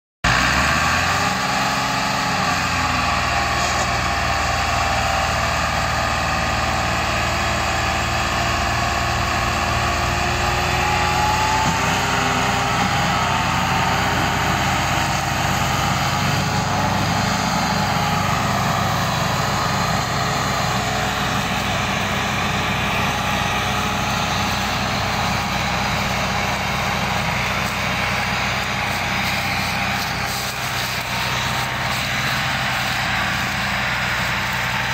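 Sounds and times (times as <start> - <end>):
tractor engines straining: 0.2 - 34.9.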